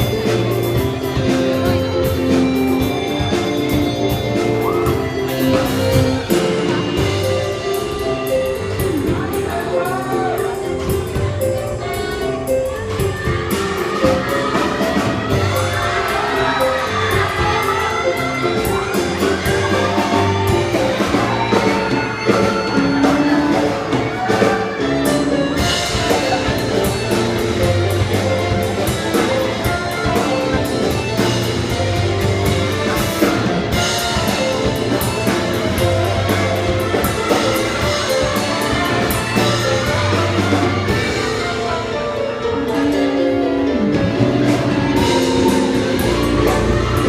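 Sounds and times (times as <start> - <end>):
drums: 0.0 - 47.0
piano: 0.0 - 47.0.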